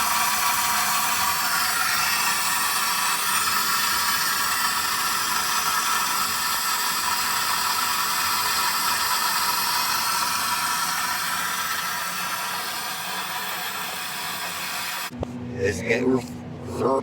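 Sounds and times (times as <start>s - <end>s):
steady hiss: 0.0s - 15.1s.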